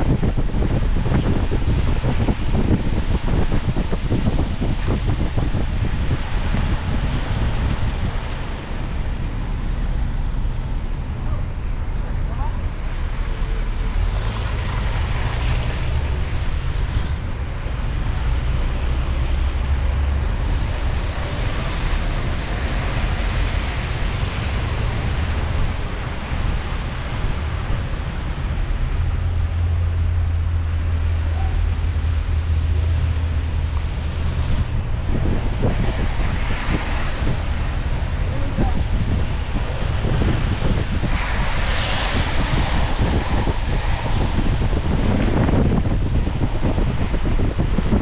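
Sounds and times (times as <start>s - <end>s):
low engine rumble: 0.0s - 48.0s
tyres hissing on wet road: 4.6s - 48.0s.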